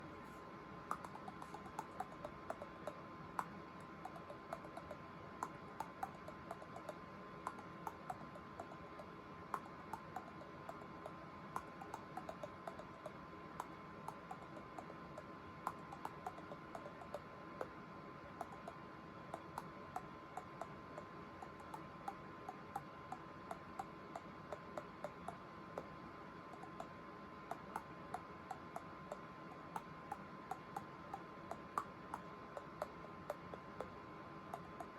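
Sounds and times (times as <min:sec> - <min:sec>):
faint high hum: 0:00.0 - 0:34.9
teeth clicking a melody: 0:00.9 - 0:34.9.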